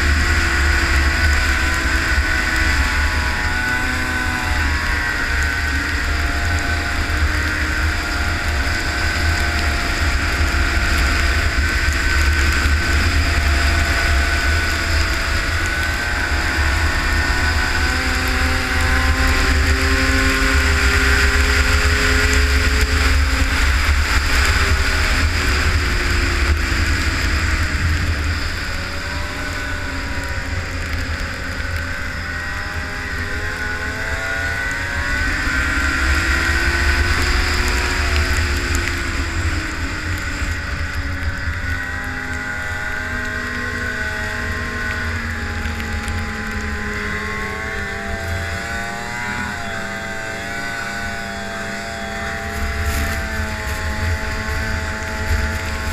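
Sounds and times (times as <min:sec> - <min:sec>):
snowmobile engine running: 0:00.0 - 0:55.9
wind rumble on microphone: 0:00.0 - 0:55.9.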